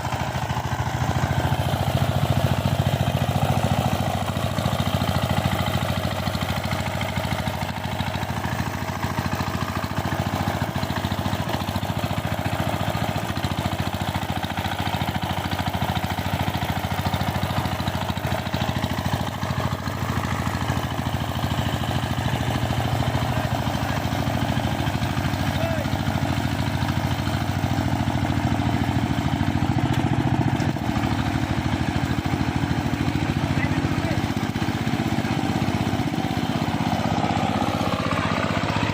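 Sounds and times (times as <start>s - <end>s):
tiller engine running: 0.0s - 38.9s.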